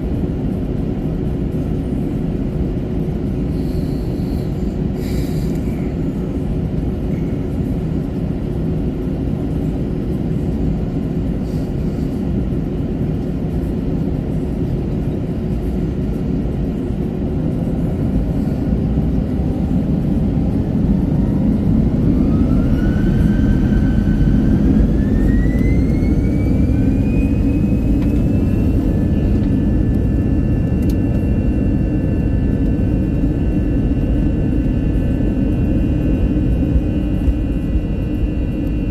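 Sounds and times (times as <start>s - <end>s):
jet engines rumbling and whining: 0.0s - 38.9s.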